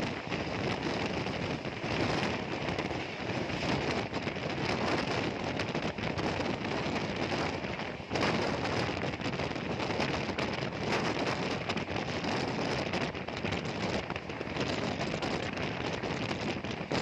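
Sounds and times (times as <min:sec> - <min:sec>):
moving train rushing: 0:00.0 - 0:17.0
wind buffeting microphone: 0:00.0 - 0:17.0.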